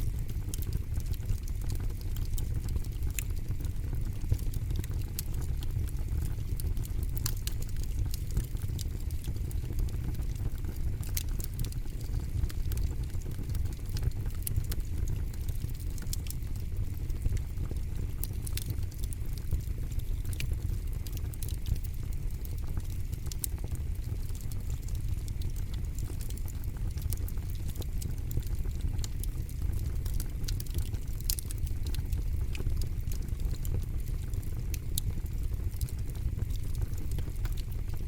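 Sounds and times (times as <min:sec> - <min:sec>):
crackles and pops of burning wood: 0:00.0 - 0:38.0
low rumble of fire: 0:00.0 - 0:38.0.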